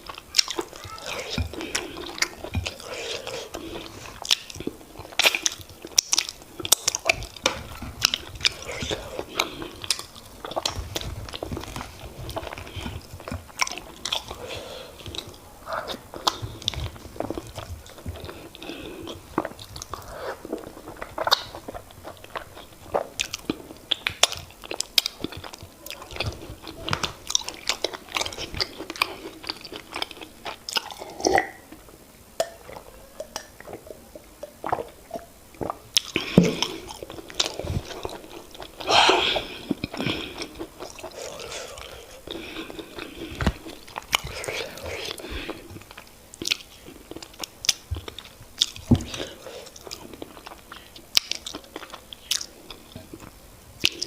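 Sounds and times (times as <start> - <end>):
wet chewing and smacks: 0.0 - 31.8, 32.4 - 54.0.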